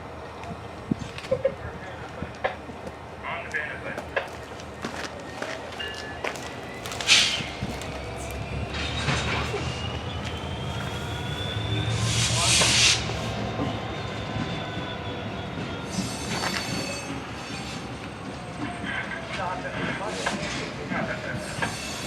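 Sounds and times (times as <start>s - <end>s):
train low rumble: 0.0s - 22.0s
train wheels squealing on rails: 3.3s - 22.0s.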